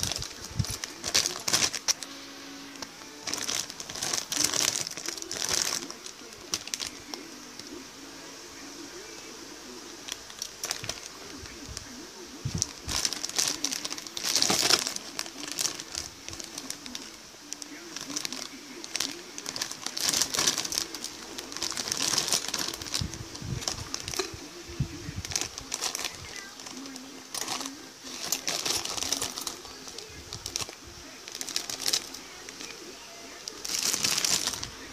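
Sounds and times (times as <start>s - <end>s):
plastic bags crinkling: 0.0s - 7.8s, 10.0s - 34.9s.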